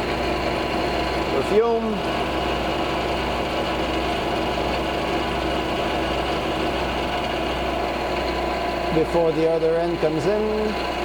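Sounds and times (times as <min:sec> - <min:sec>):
milling machine humming: 0:00.0 - 0:11.0.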